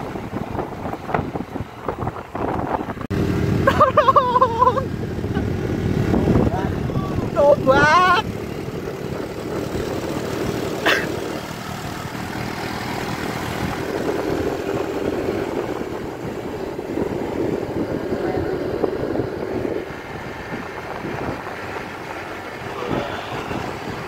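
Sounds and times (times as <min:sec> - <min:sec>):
scooter engine running: 0:00.0 - 0:24.0
wind noise on microphone: 0:00.0 - 0:24.0.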